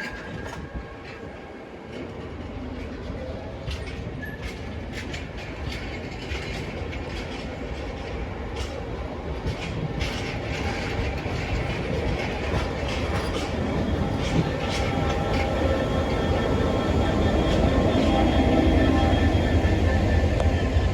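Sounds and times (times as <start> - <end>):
train rumbling: 0.0 - 20.9
train wheels clacking: 0.0 - 20.9.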